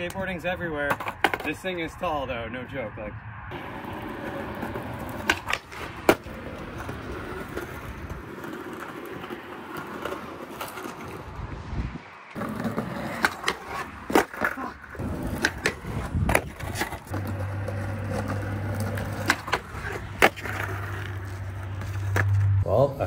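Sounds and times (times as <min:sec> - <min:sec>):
skateboard clacks: 0:00.0 - 0:01.7, 0:03.5 - 0:11.2, 0:12.4 - 0:22.4
skateboard wheels rolling on concrete: 0:00.0 - 0:23.0.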